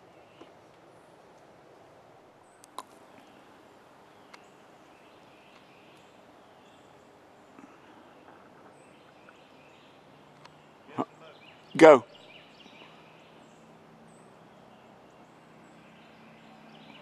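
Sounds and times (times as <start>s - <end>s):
faint bird calls: 2.4s - 17.0s.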